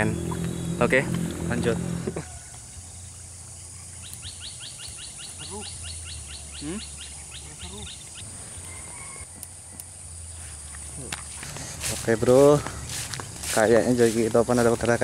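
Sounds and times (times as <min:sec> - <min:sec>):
high insect hiss: 0:00.0 - 0:15.0.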